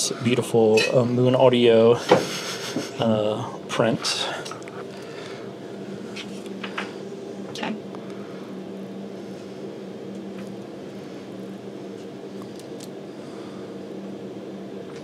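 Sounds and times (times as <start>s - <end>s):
equipment hum: 0.0s - 15.0s.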